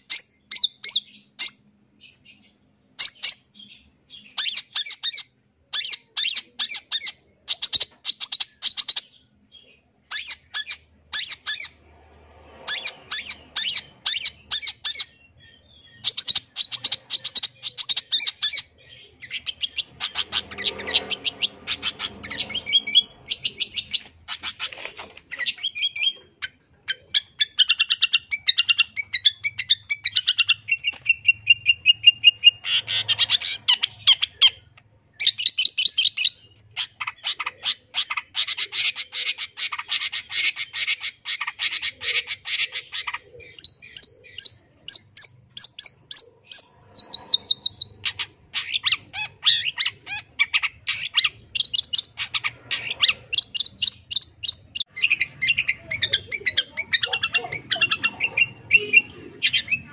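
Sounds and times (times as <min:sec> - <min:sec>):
bird chattering song: 0:00.0 - 0:11.9, 0:12.7 - 0:59.9.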